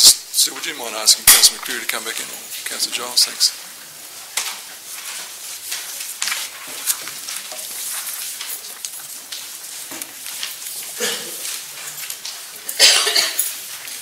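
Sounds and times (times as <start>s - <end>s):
people shifting at desks: 0.0s - 14.0s
papers being handled: 0.8s - 14.0s.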